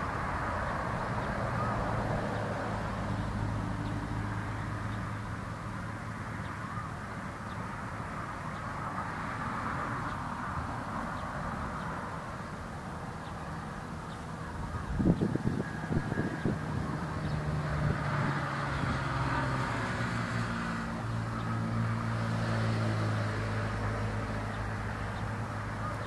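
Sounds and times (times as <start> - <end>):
distant engine hum: 0.0 - 26.0.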